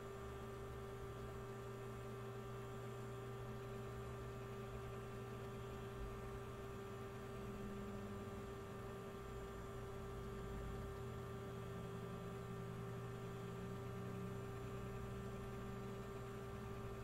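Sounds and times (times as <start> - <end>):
steady tonal hum: 3.3 - 17.0.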